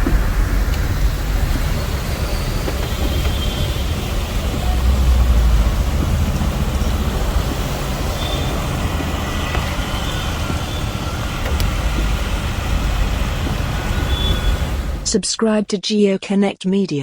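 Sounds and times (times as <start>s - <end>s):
street traffic rumbling: 0.0s - 15.2s.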